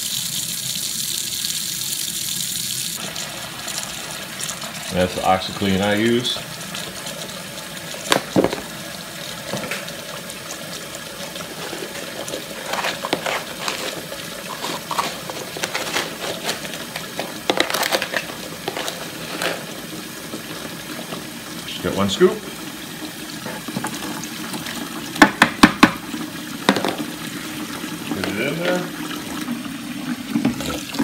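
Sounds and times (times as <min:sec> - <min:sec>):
water running into plastic cooler: 0:00.0 - 0:31.0.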